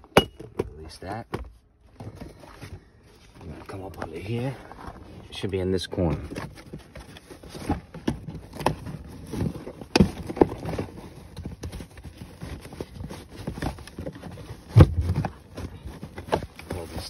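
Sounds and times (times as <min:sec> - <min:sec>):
hand rummaging under car carpet: 0:01.8 - 0:17.0.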